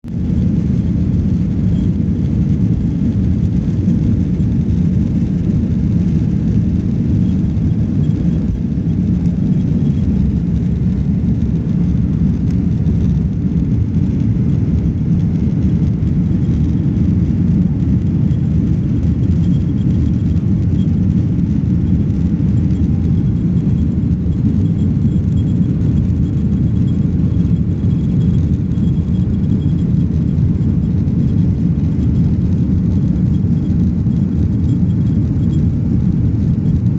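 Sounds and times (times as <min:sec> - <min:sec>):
jet engines taking off: 0:00.1 - 0:36.9.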